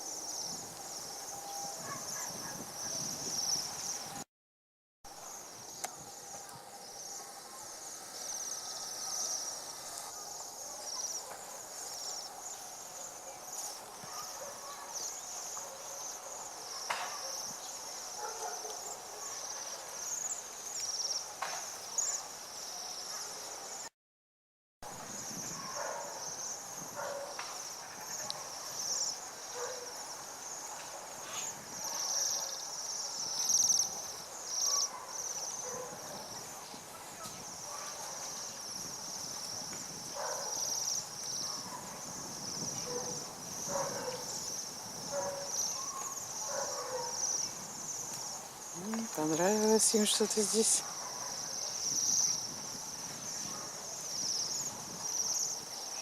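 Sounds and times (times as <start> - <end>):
small birds chirping and twittering: 0.0 - 4.2, 5.3 - 23.9, 25.0 - 56.0.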